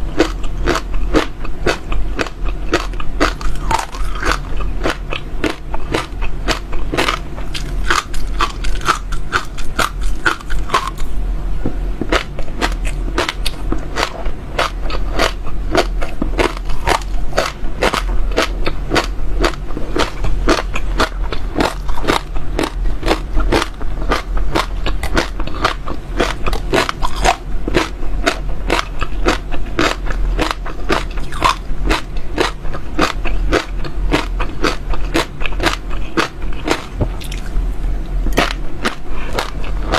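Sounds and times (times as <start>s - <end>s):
chewing crunchy seeds: 0.0s - 11.2s, 12.0s - 37.7s, 38.3s - 39.9s.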